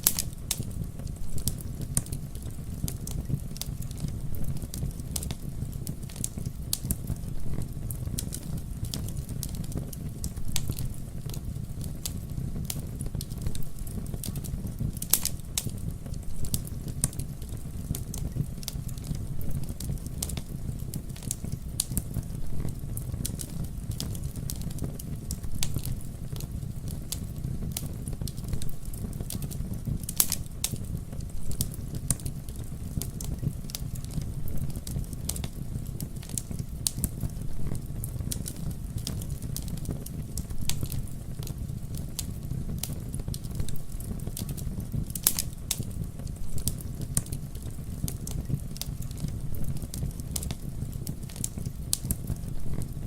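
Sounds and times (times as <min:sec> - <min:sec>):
loud pops of fire: 0:00.0 - 0:53.0
wood fire crackling: 0:00.0 - 0:53.0.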